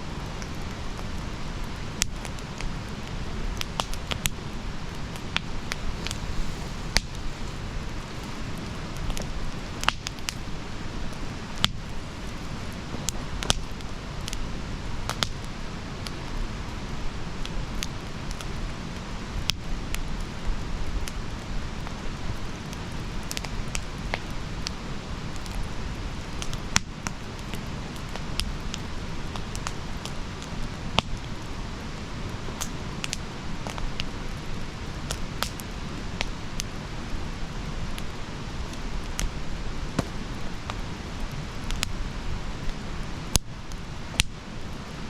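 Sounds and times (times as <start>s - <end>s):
low rumble of fire: 0.0s - 45.0s
campfire pops and snaps: 0.3s - 16.4s, 17.4s - 44.8s.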